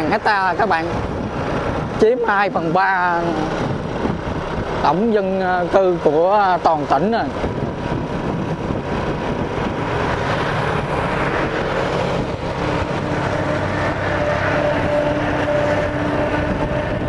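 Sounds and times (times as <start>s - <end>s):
motorbike engine drone: 0.0s - 17.0s
road noise: 0.0s - 17.0s
wind rushing: 0.0s - 17.0s.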